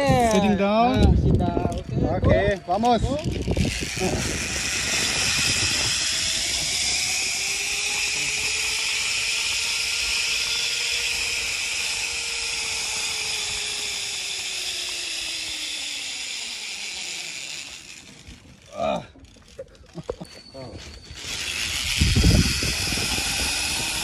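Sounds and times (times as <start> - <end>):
zipline trolley whirring on cable: 0.0 - 24.0.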